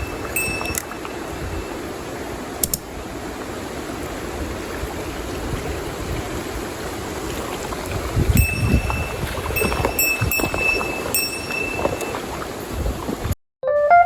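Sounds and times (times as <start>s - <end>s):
stream water flowing: 0.0s - 13.4s.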